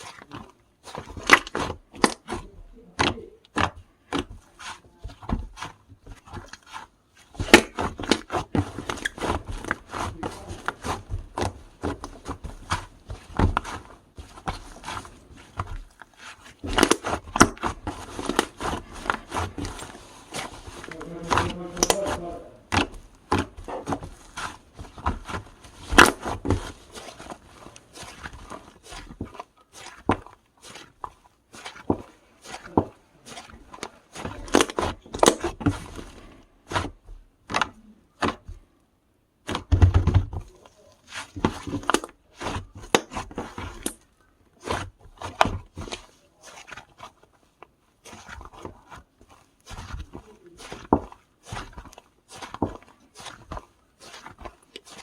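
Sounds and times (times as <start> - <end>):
slime squished by hand: 0.0 - 38.8, 39.4 - 55.0.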